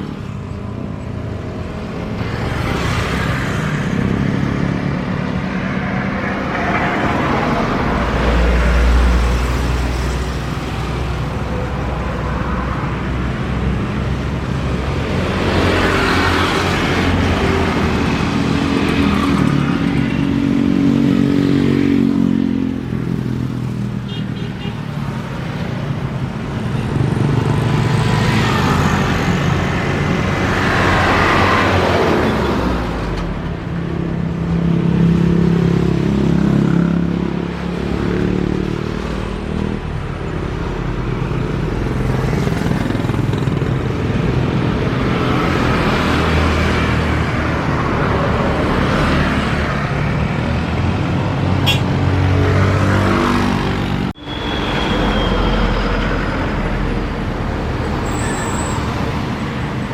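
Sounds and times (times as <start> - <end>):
motorcycles passing: 0.0 - 58.0
cars passing: 0.0 - 59.9.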